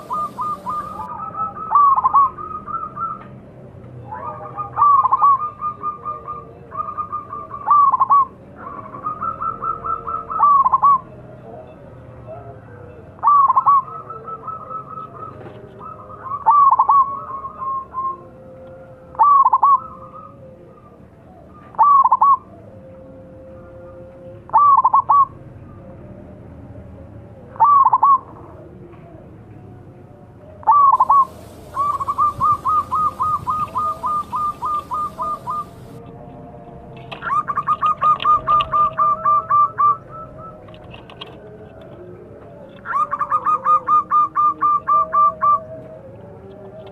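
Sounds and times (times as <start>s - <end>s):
dove cooing: 0.0s - 3.3s, 4.0s - 18.3s, 19.1s - 22.7s, 24.5s - 25.4s, 27.6s - 29.2s, 30.5s - 36.2s, 37.0s - 46.9s.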